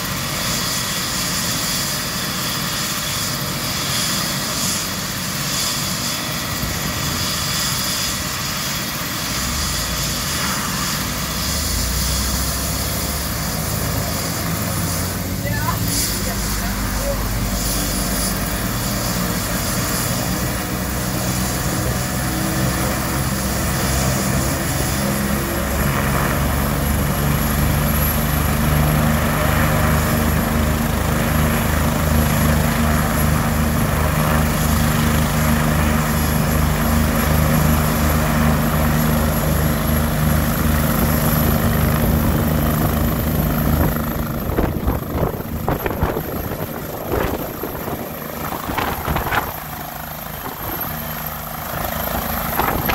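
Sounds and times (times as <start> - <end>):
helicopter rotor beat: 0.0 - 52.9
helicopter turbine whine: 0.0 - 52.9.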